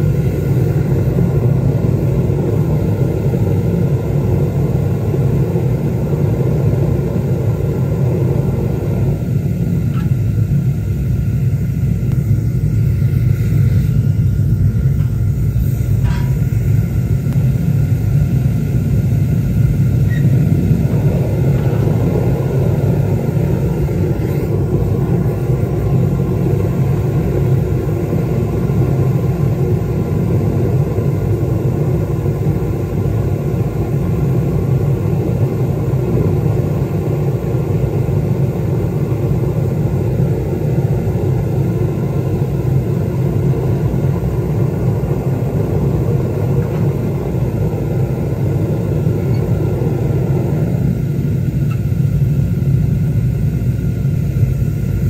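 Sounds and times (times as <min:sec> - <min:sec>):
furnace burner rumbling: 0:00.0 - 0:55.0.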